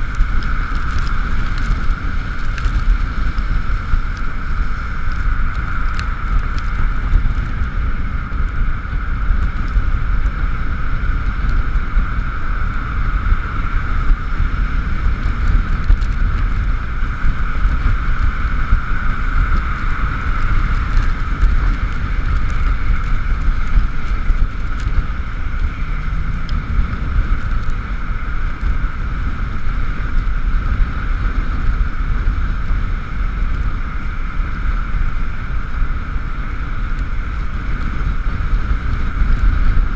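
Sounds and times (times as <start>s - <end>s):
electric scooter whine: 0.0s - 39.9s
wind rumbling on camera: 0.0s - 39.9s.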